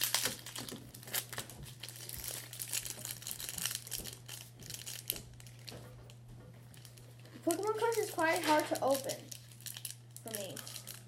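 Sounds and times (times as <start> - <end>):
foil wrapper crinkling and tearing: 0.0 - 5.8, 6.7 - 11.0.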